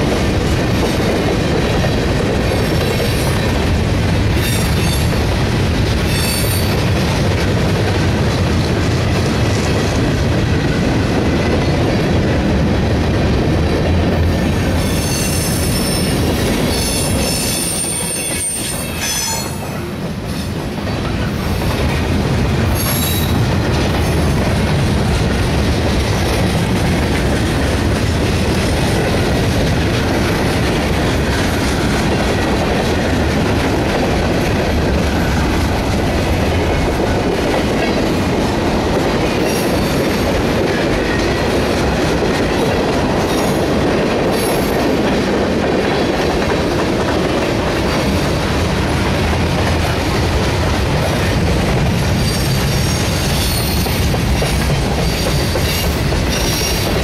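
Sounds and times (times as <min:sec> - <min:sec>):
steel wheels rolling on rail: 0:00.0 - 0:57.0.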